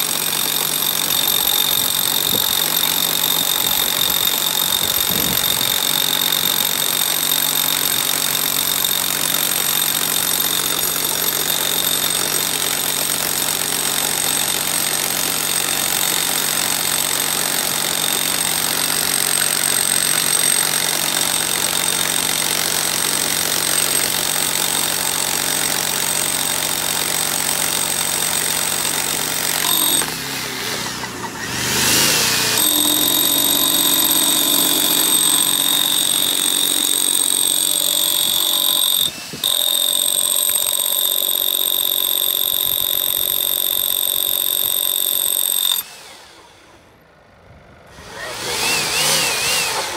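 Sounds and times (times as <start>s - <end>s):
hammer drill boring into concrete: 0.0s - 46.8s, 48.0s - 49.9s.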